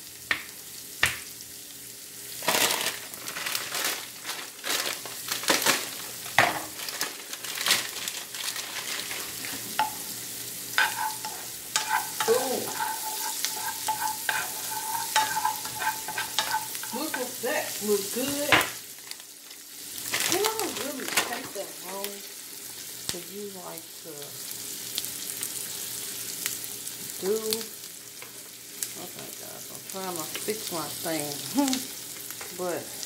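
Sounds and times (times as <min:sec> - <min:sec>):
onions sizzling in butter: 0:00.0 - 0:33.0.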